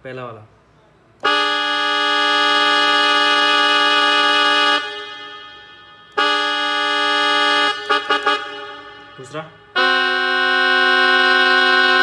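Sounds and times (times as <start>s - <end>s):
keyboard trumpet chord blasts: 1.2s - 12.0s.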